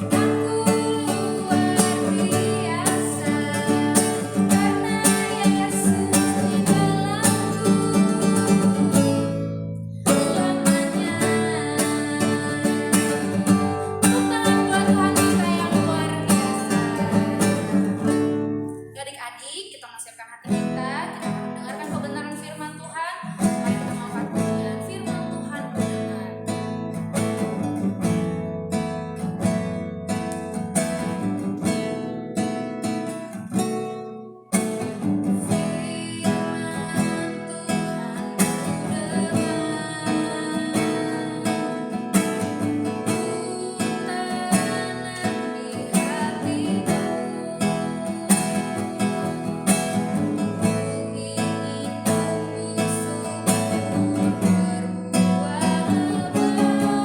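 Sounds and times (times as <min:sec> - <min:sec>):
praise song with acoustic guitar: 0:00.0 - 0:19.4, 0:20.4 - 0:57.0.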